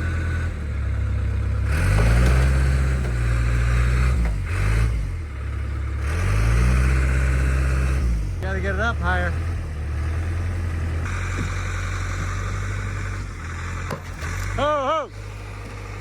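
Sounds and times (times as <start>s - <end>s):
bulldozer diesel engine revving: 0.0s - 16.0s.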